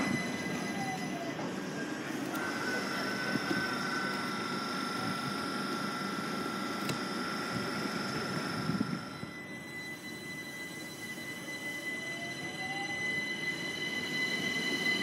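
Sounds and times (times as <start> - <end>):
train high whine: 0.0 - 15.0.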